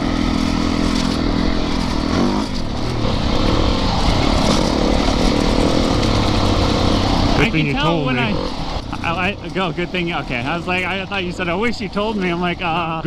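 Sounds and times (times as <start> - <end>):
dirt bike engine under throttle: 0.0 - 13.0.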